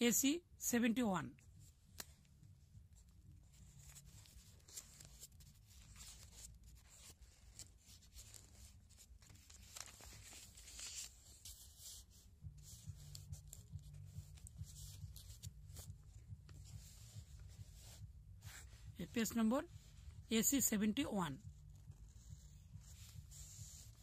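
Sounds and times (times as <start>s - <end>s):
low steady hum: 0.0s - 24.0s
book pages turning: 3.0s - 20.1s, 21.7s - 24.0s.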